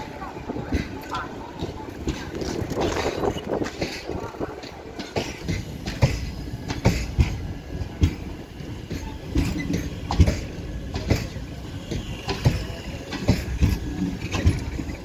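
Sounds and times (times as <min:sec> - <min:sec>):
train coaches rumbling past: 0:00.0 - 0:15.0
wheels clacking over rail joints: 0:00.0 - 0:15.0.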